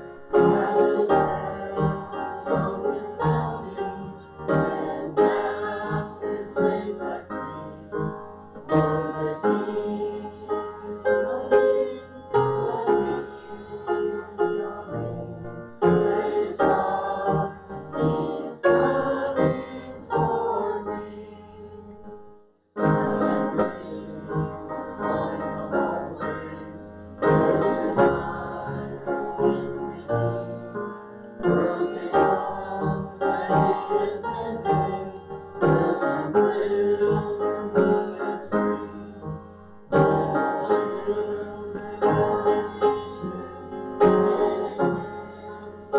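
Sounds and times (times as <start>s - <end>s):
church hymn singing: 0.0s - 45.9s.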